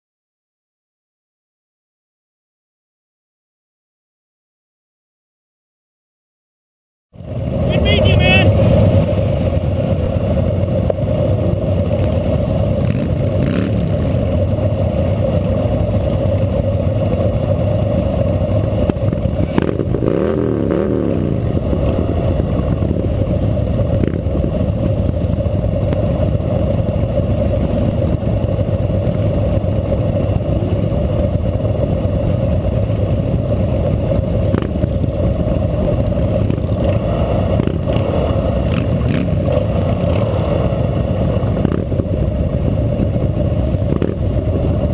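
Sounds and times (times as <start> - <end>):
engine revving: 7.2 - 44.9
motorcycle engine idling: 7.2 - 44.9
other motorcycles idling: 7.2 - 44.9.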